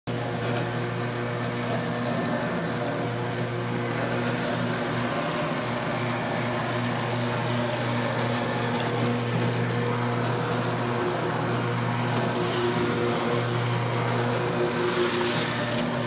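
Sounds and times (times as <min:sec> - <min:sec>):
floor machine motor humming: 0:00.1 - 0:16.0
pad scrubbing floor: 0:00.2 - 0:16.0.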